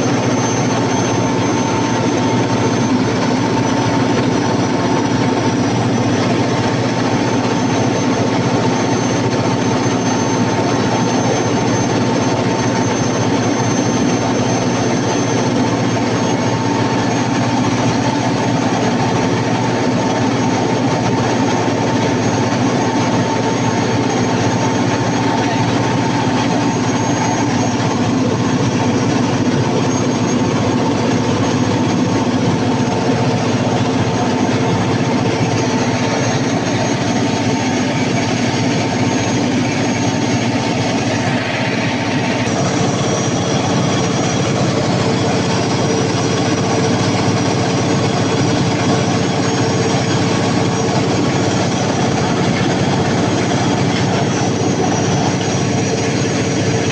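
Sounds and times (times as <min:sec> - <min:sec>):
diesel generator engine running: 0:00.0 - 0:56.9.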